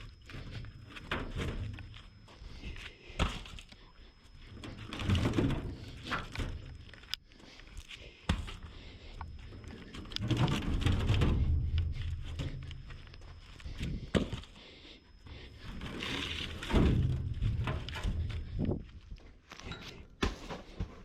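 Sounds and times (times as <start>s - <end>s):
steady low rumble: 0.0s - 19.4s.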